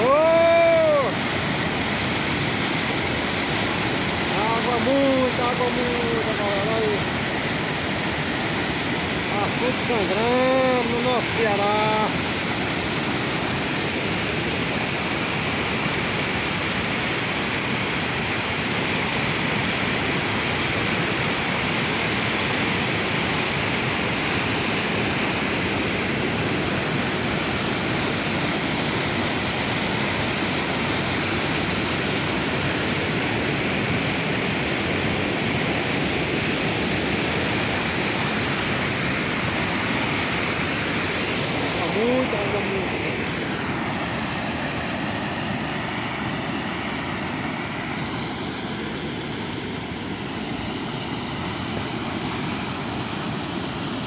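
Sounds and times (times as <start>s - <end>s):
water rushing through rapids: 0.0s - 54.0s.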